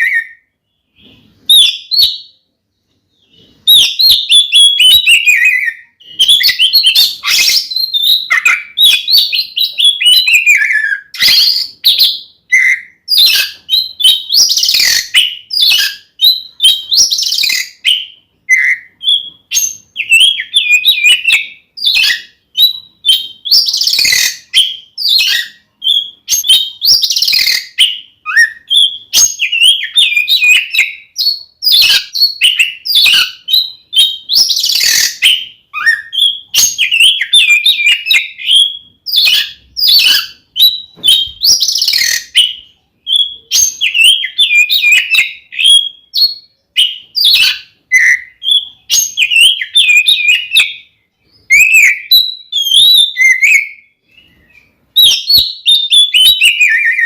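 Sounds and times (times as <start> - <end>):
songbird whistling song: 0.0 - 57.0.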